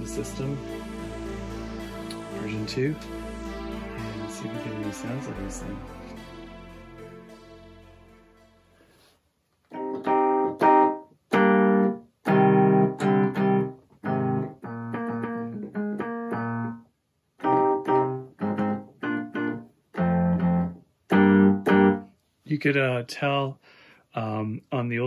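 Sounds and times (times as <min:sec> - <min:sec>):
electric piano chords: 0:00.0 - 0:08.6, 0:09.7 - 0:16.8, 0:17.4 - 0:22.0.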